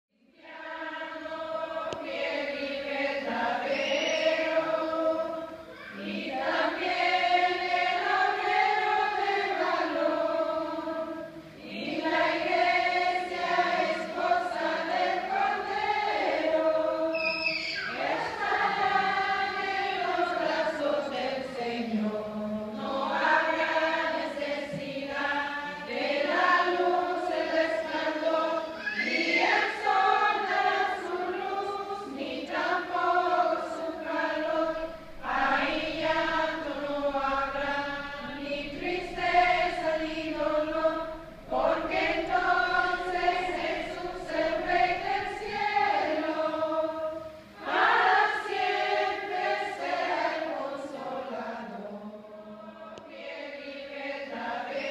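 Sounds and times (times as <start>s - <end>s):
choir singing slow melody: 0.2s - 54.9s.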